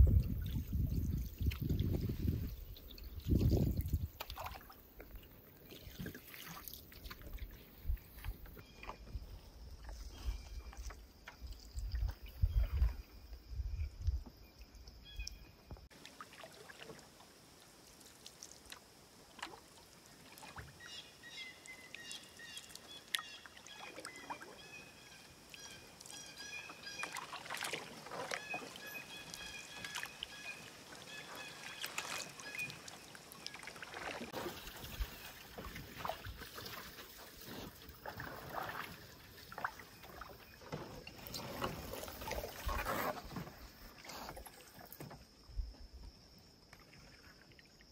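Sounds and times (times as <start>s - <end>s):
paddle splashing in water: 0.0s - 13.2s, 15.1s - 45.5s, 46.7s - 47.8s.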